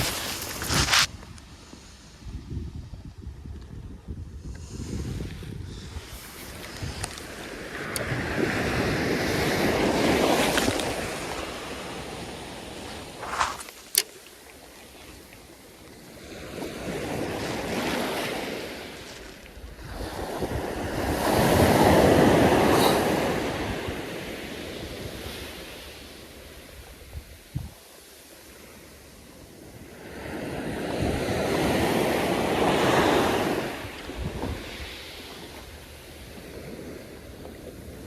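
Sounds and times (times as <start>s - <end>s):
sea waves breaking on beach: 0.0s - 1.1s, 5.7s - 38.0s
wind buffeting microphone: 0.0s - 14.0s, 15.0s - 25.6s, 26.7s - 27.8s, 30.3s - 38.0s.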